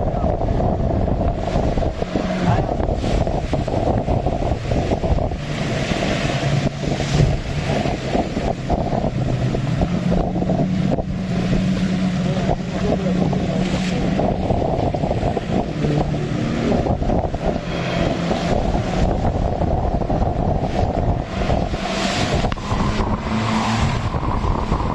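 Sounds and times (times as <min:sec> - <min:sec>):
motorboat engine running: 0:00.0 - 0:24.9
wind buffeting microphone: 0:00.0 - 0:24.9.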